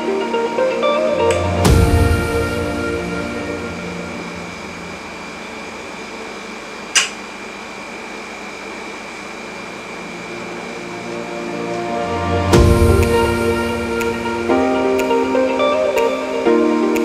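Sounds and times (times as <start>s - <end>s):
fan-like hum: 0.0s - 17.0s
thin high whine: 0.0s - 17.0s.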